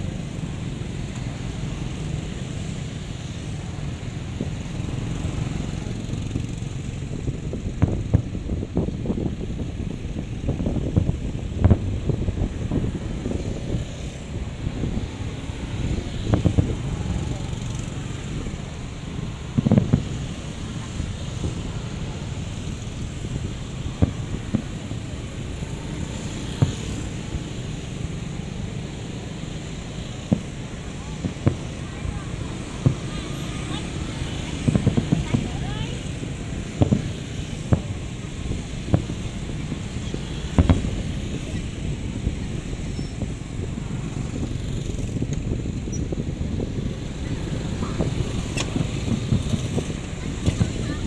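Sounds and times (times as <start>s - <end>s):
steady low rumble: 0.0s - 51.0s
wind buffeting microphone: 0.0s - 51.0s
distant fireworks booms: 3.7s - 51.0s.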